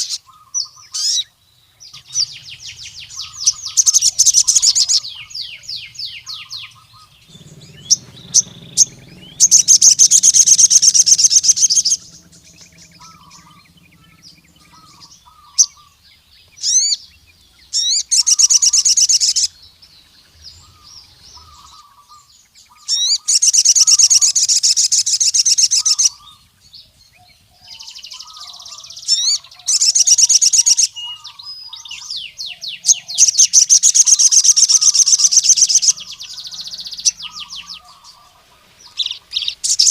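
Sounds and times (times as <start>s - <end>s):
bird rapid trilling song: 0.0s - 39.9s
bird soft chirps: 0.0s - 39.9s.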